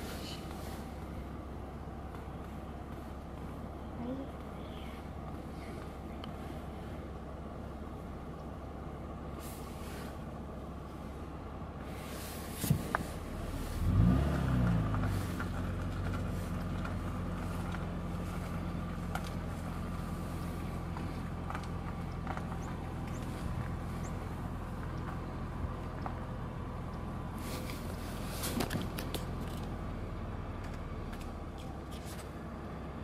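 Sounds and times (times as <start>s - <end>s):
vehicle engine slowing and idling: 0.0s - 33.0s.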